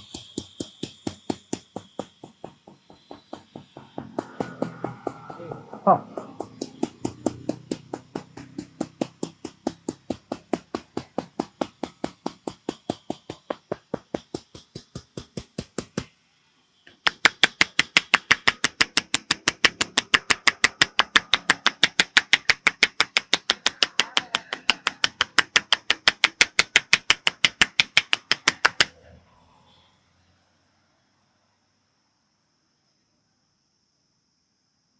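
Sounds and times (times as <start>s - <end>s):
rapid hand strikes massage: 0.0s - 16.2s, 16.9s - 28.9s.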